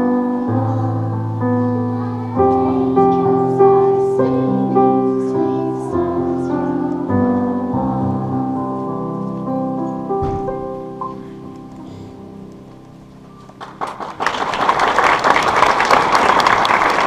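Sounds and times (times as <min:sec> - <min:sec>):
piano playing slow chords: 0:00.0 - 0:13.8.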